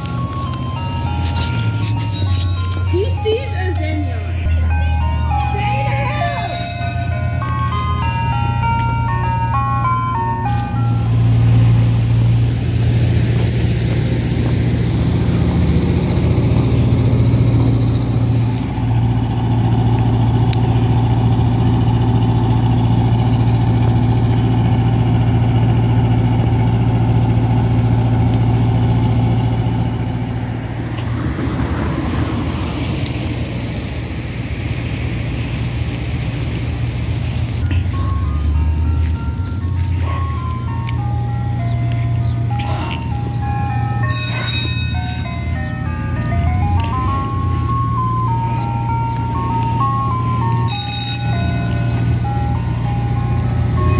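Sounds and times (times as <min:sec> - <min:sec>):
truck engine humming: 0:00.0 - 0:53.9.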